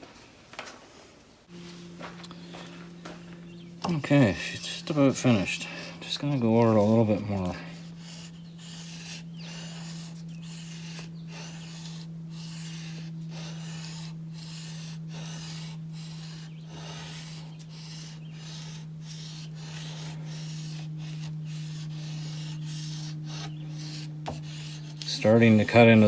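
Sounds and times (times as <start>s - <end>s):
steady low hum: 1.3s - 26.0s
blade scraping on sandpaper: 1.5s - 26.0s.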